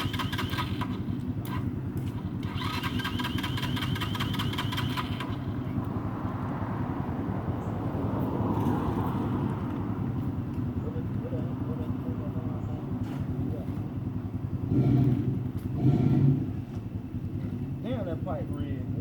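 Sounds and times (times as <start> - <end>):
dirt bike engine idling: 0.0 - 8.2, 9.4 - 19.0.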